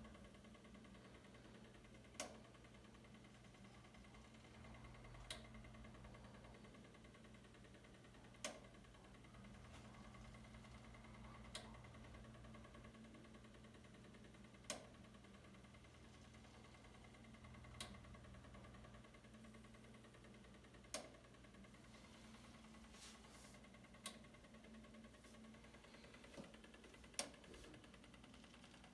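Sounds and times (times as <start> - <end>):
washing machine hum: 0.0 - 28.9.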